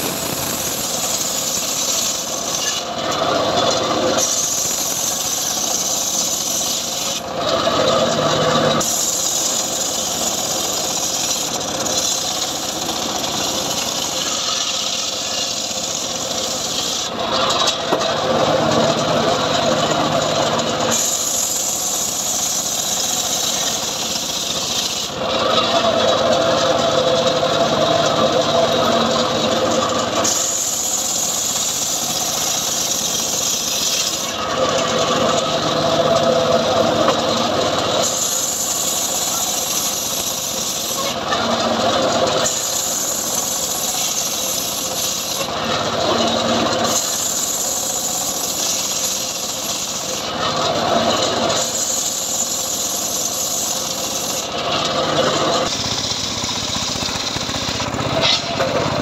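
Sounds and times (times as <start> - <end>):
circular saw cutting wood: 0.0 - 59.0.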